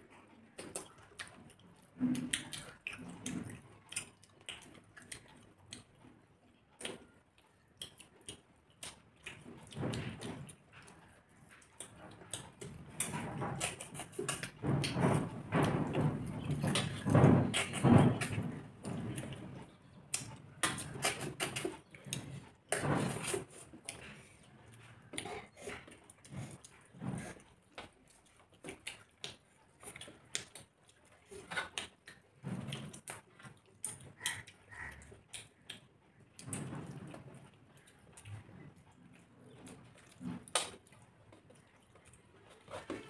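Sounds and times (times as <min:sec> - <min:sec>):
chewing and mouth smacks: 0:00.0 - 0:43.0
fingers mixing food on metal plates: 0:00.0 - 0:43.0.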